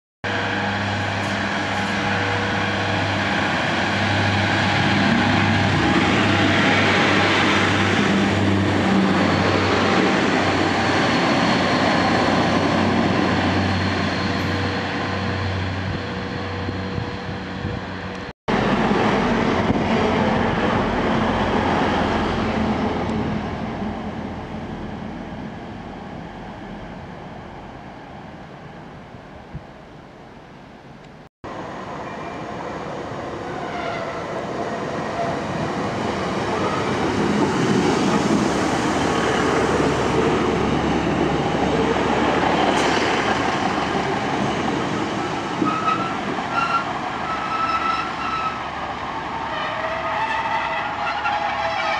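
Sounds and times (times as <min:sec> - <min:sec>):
diesel railcar engine drone: 0:00.2 - 0:51.9
train low rumble: 0:00.2 - 0:51.9.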